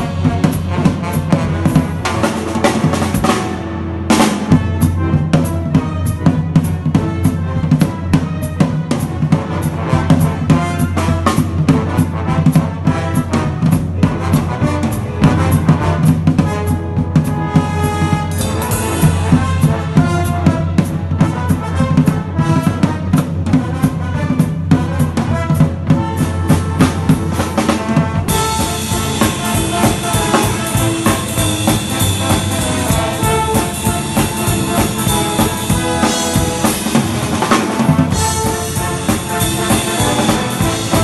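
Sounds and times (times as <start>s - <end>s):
drum kit swing groove: 0.0s - 41.0s
orchestra playing: 0.0s - 41.0s.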